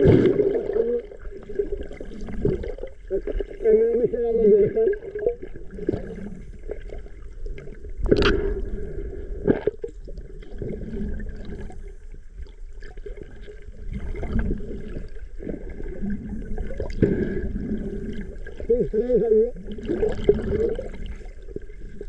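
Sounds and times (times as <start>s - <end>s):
water splashing: 0.0s - 8.8s, 9.4s - 22.0s
water gurgling and sloshing: 0.0s - 22.0s.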